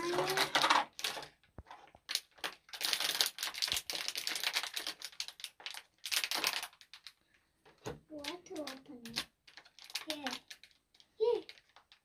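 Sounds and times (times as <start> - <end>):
plastic wrapping crinkling: 0.0 - 7.5, 8.1 - 12.0.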